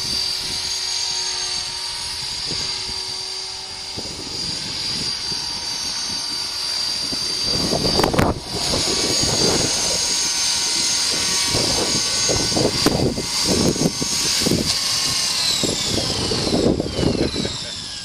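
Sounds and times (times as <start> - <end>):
rc helicopter whine: 0.0 - 18.0
wind buffeting microphone: 0.0 - 18.0.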